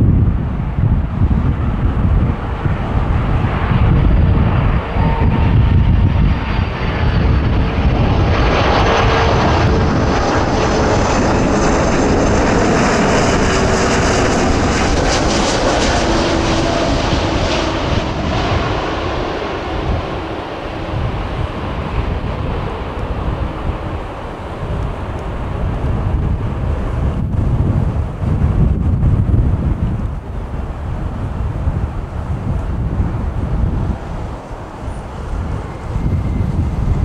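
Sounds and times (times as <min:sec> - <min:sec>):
jet engines whining: 0:00.0 - 0:37.0
wind rumbling on microphone: 0:00.0 - 0:37.0.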